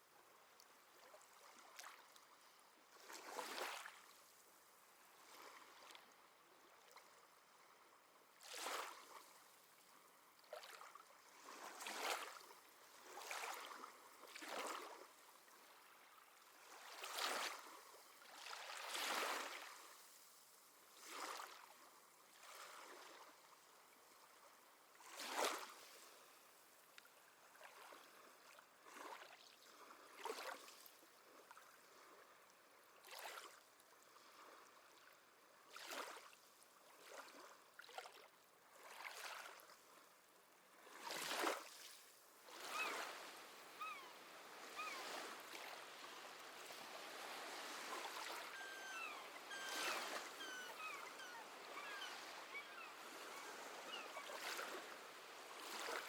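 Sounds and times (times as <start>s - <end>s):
small waves lapping at shore: 0.0s - 56.0s.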